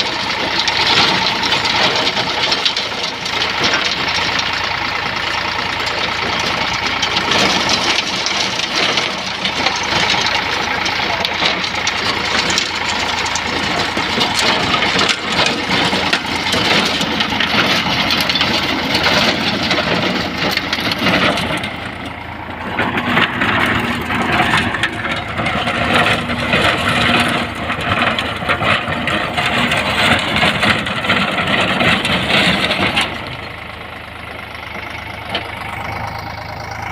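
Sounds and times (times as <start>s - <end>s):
tractor diesel engine clattering: 0.0s - 36.9s.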